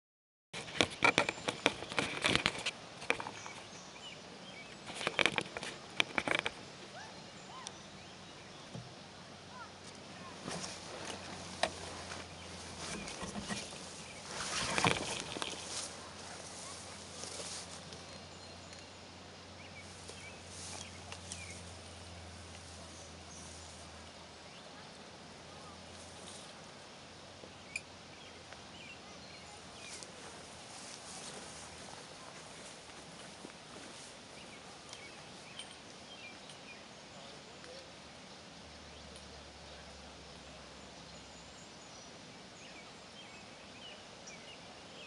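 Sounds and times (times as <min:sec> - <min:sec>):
steady low hum and hiss: 0:00.6 - 0:45.0.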